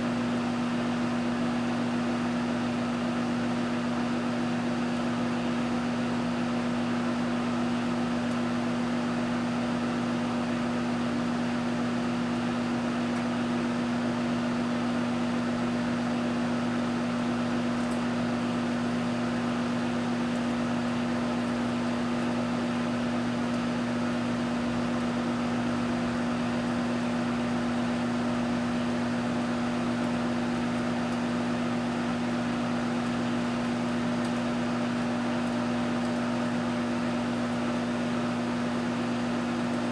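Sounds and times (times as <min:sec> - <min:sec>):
cooling fan whirring: 0:00.0 - 0:39.9
microwave oven humming: 0:00.0 - 0:39.9.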